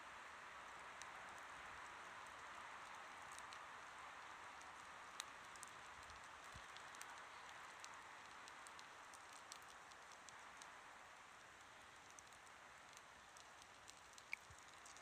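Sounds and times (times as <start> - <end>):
faint campfire crackling: 0.0 - 15.0.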